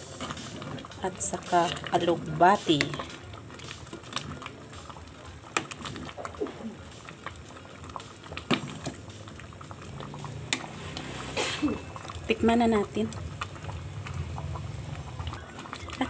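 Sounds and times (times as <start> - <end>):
ladle stirring soup: 0.0 - 16.0
thick soup bubbling: 0.0 - 16.0.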